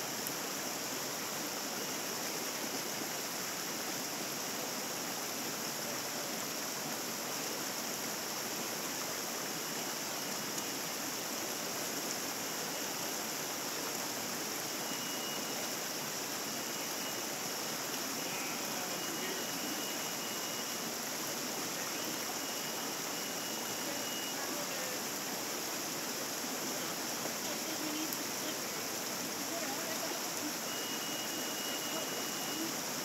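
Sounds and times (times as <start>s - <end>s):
mountain stream over stones: 0.0s - 33.0s.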